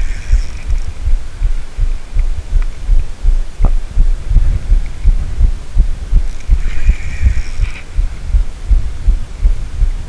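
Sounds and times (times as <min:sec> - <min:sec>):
low thumps on microphone: 0:00.0 - 0:10.0.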